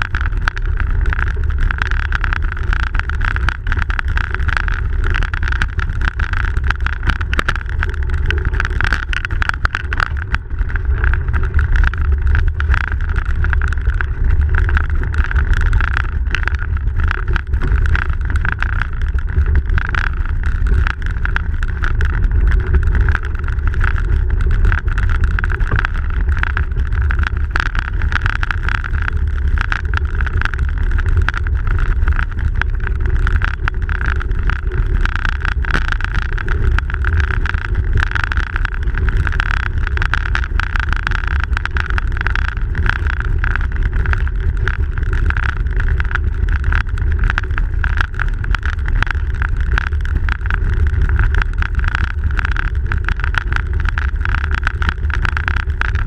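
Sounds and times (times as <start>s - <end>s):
wind and tyre rumble: 0.0s - 56.0s.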